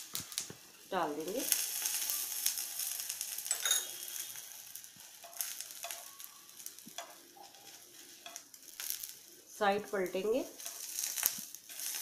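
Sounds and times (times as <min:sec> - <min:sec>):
slices sizzling in oil: 0:00.0 - 0:12.0.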